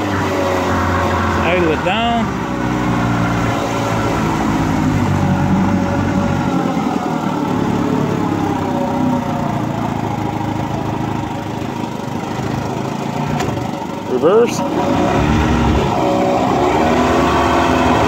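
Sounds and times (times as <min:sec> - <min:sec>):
outboard motor running: 0:00.4 - 0:18.0.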